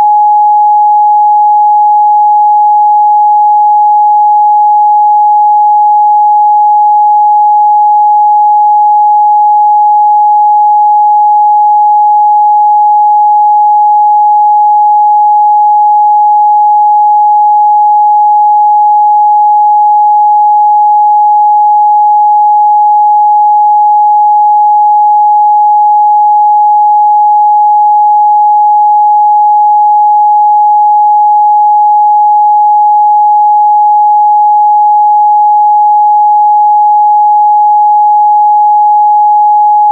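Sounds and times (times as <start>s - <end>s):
steady sine-wave test tone: 0.0s - 39.9s.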